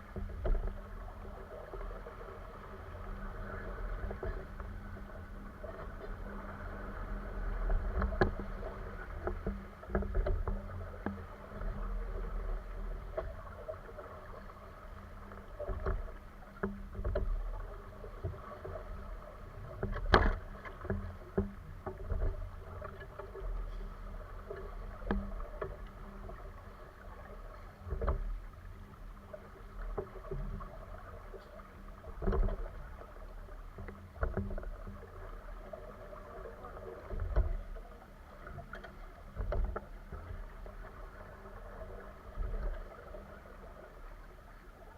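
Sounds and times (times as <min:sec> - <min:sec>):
water splashing against hull: 0:00.0 - 0:44.9.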